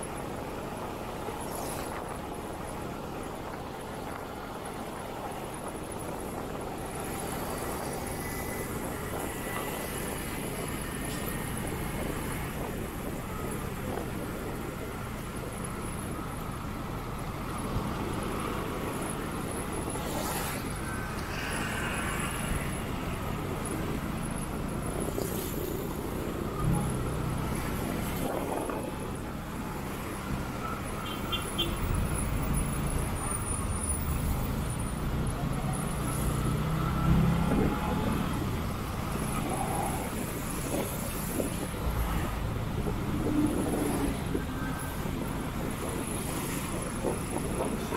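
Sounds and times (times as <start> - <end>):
motorcycle engine and road noise: 0.0 - 47.9
vehicles passing: 0.0 - 47.9.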